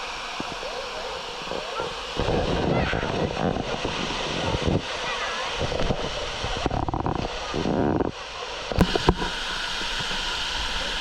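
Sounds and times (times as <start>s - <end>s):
waterfall rushing: 0.0s - 11.0s
wind rumble on microphone: 0.0s - 11.0s.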